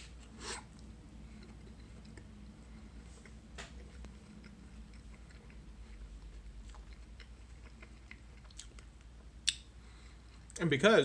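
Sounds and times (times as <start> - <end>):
person chewing apple: 0.0 - 10.6.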